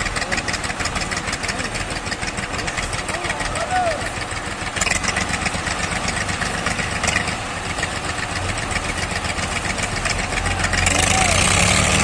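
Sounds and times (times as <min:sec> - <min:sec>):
tractor diesel engine rattling: 0:00.0 - 0:12.0.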